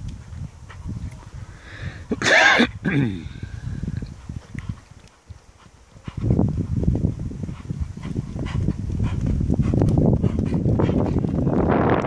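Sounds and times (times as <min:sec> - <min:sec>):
horse hooves trotting on sand: 0:00.0 - 0:01.5, 0:03.7 - 0:12.0.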